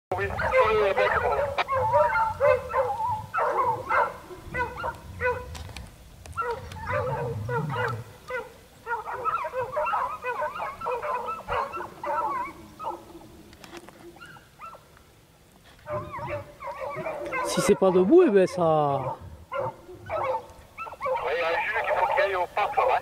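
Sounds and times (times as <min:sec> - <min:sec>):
hounds baying: 0:00.1 - 0:05.7, 0:06.3 - 0:15.0, 0:15.6 - 0:23.0.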